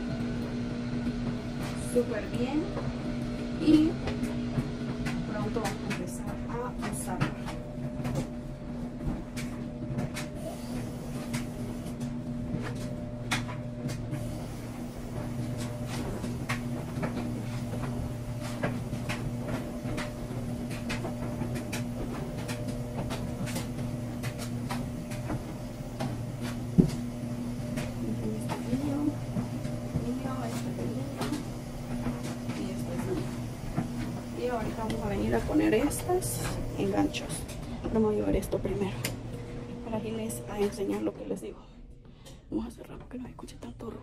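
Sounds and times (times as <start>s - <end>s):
washing machine humming: 0.0s - 44.0s.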